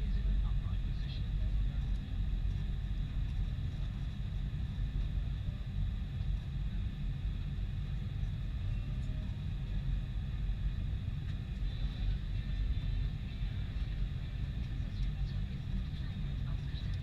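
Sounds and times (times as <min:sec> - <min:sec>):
faint high engine whine: 0:00.0 - 0:17.0
jet engines rumbling: 0:00.0 - 0:17.0.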